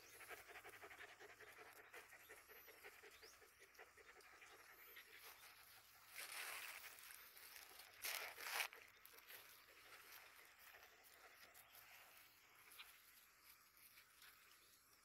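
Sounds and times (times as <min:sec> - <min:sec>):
dogs eating and breathing: 0:00.0 - 0:15.0.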